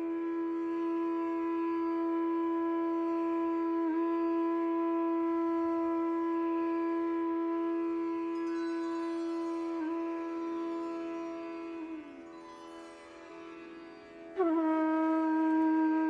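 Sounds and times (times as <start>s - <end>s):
wind instrument holding long note: 0.0s - 12.5s, 13.7s - 16.0s.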